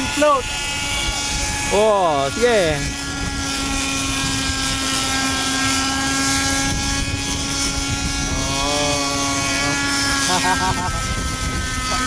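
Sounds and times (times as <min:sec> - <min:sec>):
model helicopter engine and rotor: 0:00.0 - 0:12.0.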